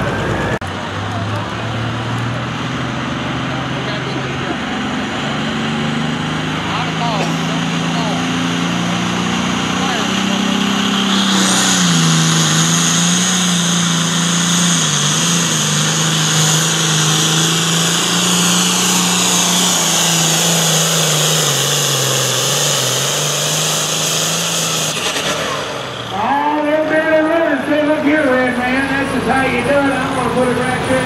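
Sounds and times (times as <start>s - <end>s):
tractor diesel engine at full power: 0.0s - 31.0s.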